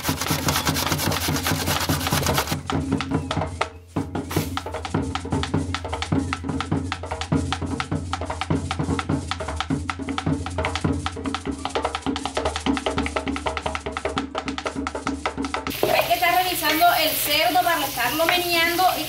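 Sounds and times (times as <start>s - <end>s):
upbeat music with drums and bass: 0.0s - 16.4s.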